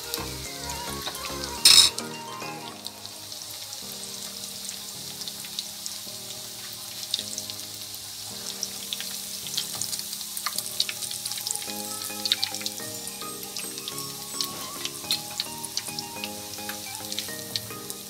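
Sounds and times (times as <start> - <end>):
soft background music: 0.0 - 18.0
bread sizzling in hot oil: 2.8 - 18.0.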